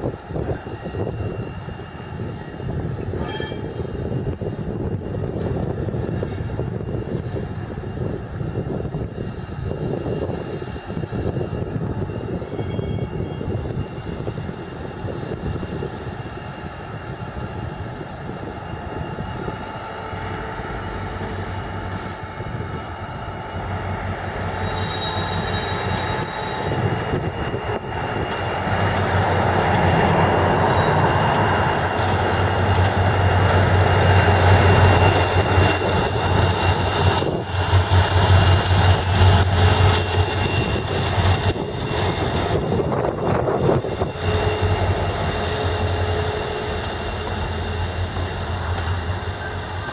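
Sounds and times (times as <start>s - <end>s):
diesel locomotive engine droning: 0.0s - 49.9s
high wheel squeal: 0.0s - 49.9s
wagons rumbling on rails: 0.0s - 49.9s.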